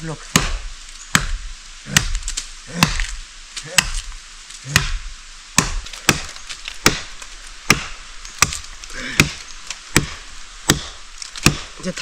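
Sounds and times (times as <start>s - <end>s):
wood being chopped: 0.3s - 12.0s.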